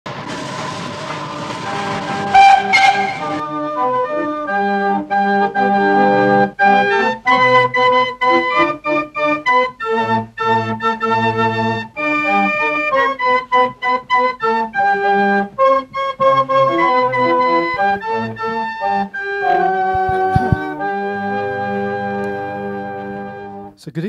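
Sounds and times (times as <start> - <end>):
organ music: 0.1 - 23.8.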